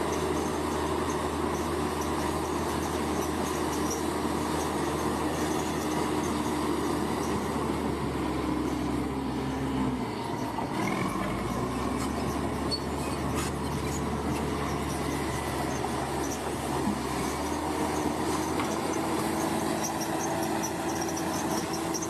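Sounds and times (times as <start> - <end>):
bulldozer diesel engine running: 0.0 - 22.0
steel tracks squealing and clanking: 0.0 - 22.0.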